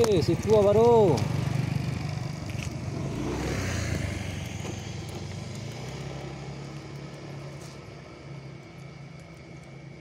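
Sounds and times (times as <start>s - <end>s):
passing vehicle engine: 0.0s - 10.0s.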